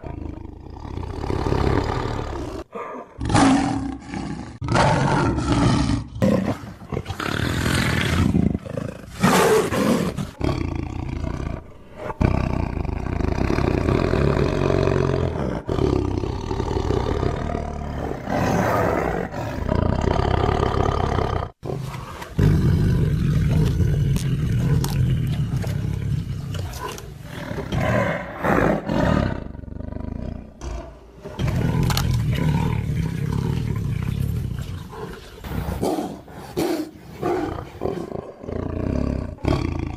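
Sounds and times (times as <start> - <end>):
tiger roaring and growling: 0.0 - 39.9.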